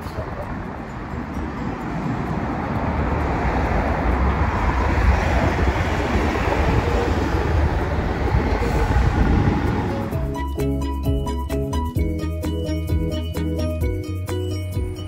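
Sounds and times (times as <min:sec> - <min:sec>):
streetcar wheels rumbling on rails: 0:00.0 - 0:14.6
road traffic: 0:00.0 - 0:15.0.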